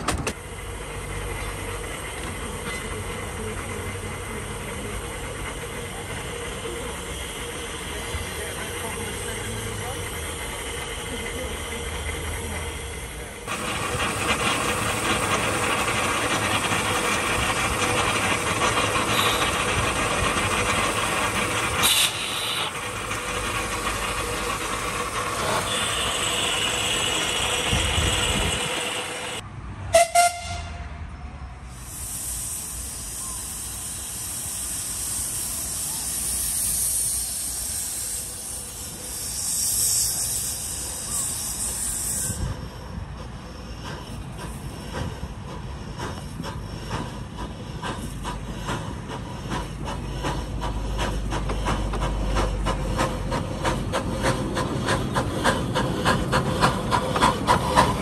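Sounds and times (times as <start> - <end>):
miniature train running on track: 0.0 - 30.5, 31.5 - 58.0.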